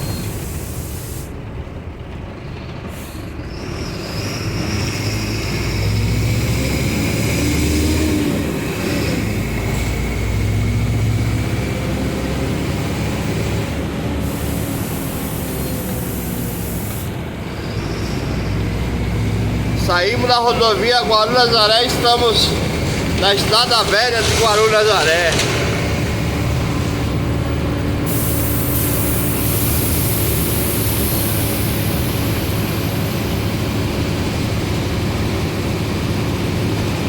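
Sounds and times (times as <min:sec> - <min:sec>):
bus engine and road noise: 0:00.0 - 0:37.0.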